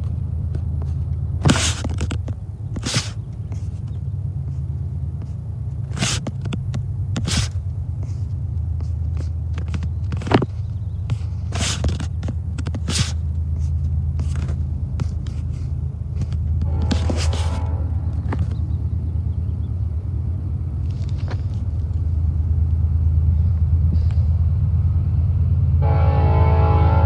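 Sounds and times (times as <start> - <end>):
diesel train rumble: 0.0 - 27.0.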